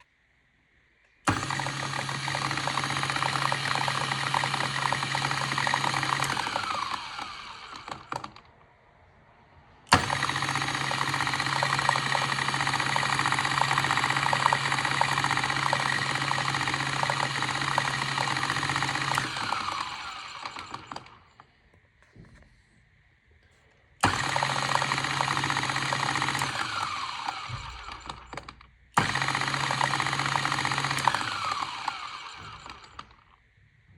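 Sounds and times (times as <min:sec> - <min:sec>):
grinder motor whine spinning down: 0:01.3 - 0:08.3, 0:09.9 - 0:21.4, 0:24.0 - 0:33.3
coffee grinder running: 0:01.3 - 0:08.4, 0:09.9 - 0:21.3, 0:24.0 - 0:28.4, 0:29.0 - 0:33.3.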